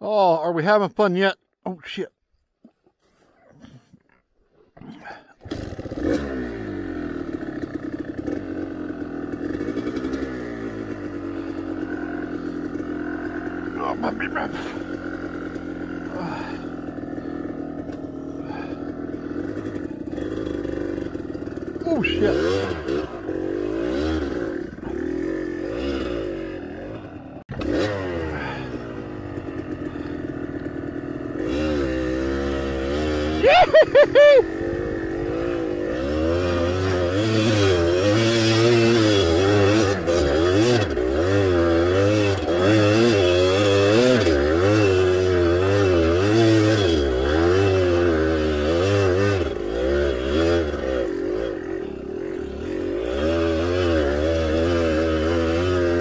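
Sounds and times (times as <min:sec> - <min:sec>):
dirt bike engines revving: 0:04.7 - 0:56.0.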